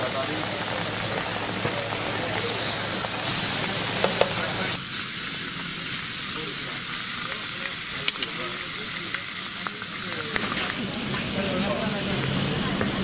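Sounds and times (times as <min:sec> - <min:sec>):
fish sizzling on a griddle: 0:00.0 - 0:13.0.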